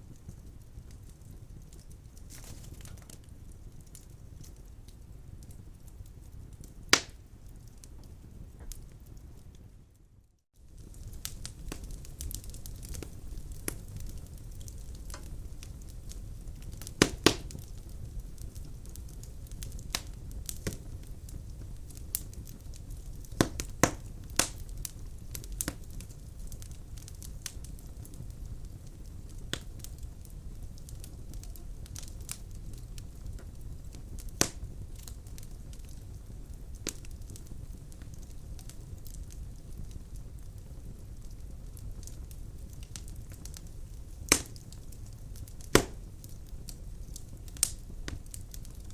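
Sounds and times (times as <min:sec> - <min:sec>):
fire crackles and pops: 0:00.0 - 0:48.9
low rumble of flames: 0:00.0 - 0:48.9.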